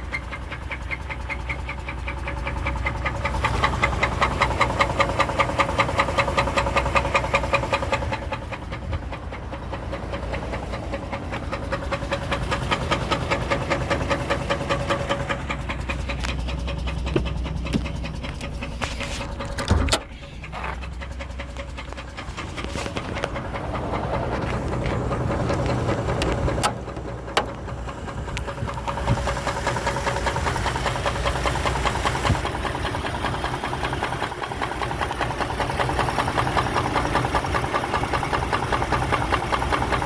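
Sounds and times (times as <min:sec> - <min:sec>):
engine running with rapid knocking: 0:00.0 - 0:40.0.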